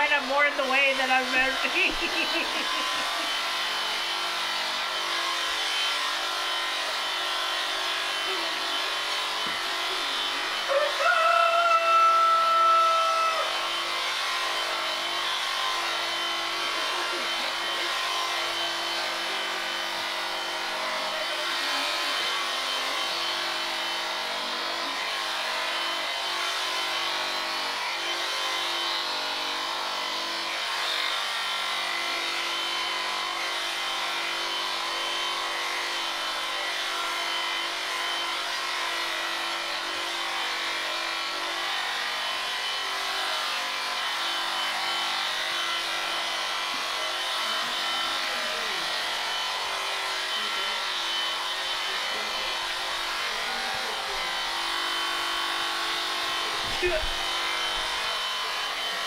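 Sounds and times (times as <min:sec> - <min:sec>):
electric shears humming: 0:00.0 - 0:59.0.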